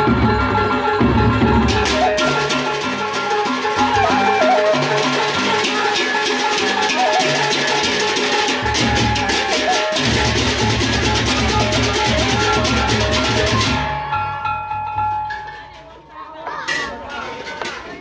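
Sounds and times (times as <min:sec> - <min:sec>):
wavering melody line: 0:00.0 - 0:15.4
large drums beating: 0:00.0 - 0:15.8.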